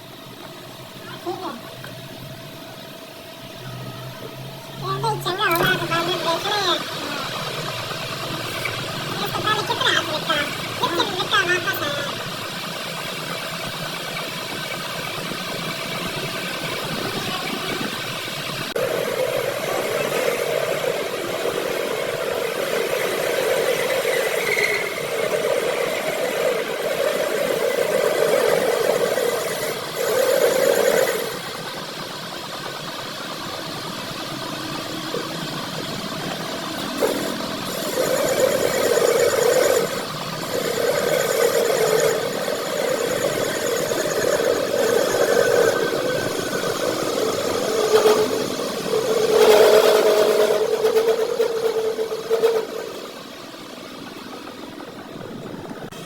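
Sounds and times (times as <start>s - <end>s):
metal lathe cutting drone: 0.0s - 56.0s.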